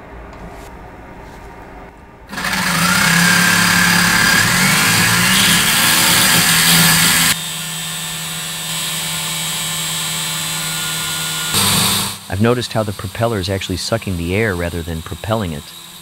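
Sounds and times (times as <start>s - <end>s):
small electric motor whirring: 2.3s - 16.0s.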